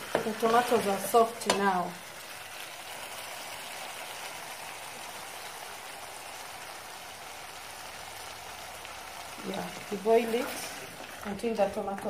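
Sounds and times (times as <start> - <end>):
pot boiling with bubbling hiss: 0.0 - 12.0.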